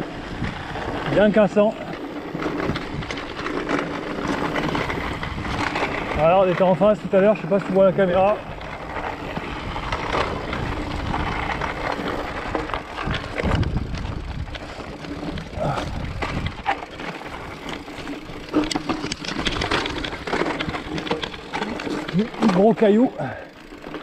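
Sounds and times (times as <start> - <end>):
bike knocking and rattling: 0.0 - 24.0
tyres crunching over stones: 0.2 - 24.0.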